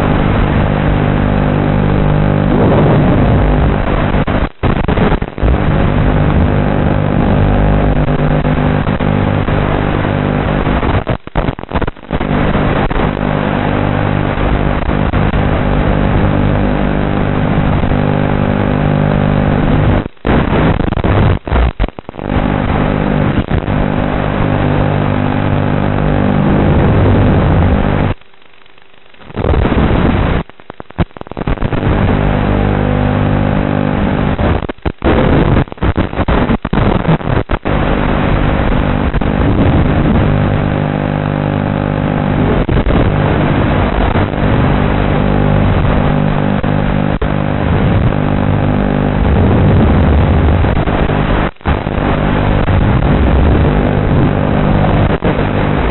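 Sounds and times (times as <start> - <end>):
drone motors buzzing whine: 0.0 - 30.5, 31.5 - 36.2, 37.0 - 55.9
radio signal crackling: 0.0 - 55.9.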